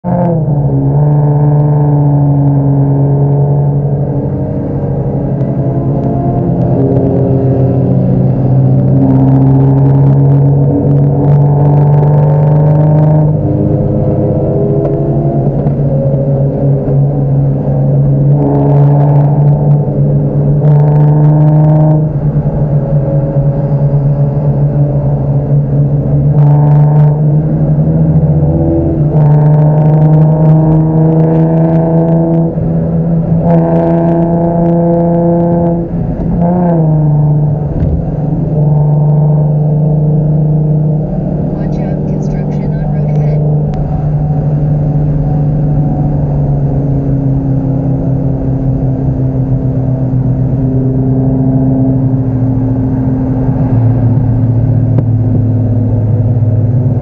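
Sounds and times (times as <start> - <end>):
car engine droning inside cabin: 0.0 - 57.0.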